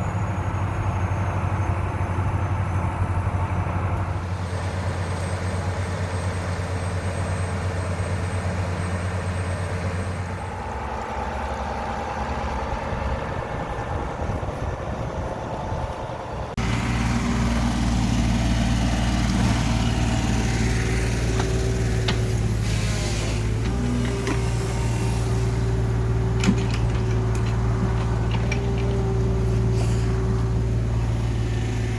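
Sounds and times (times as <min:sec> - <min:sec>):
drilling rig engine running: 0:00.0 - 0:31.9.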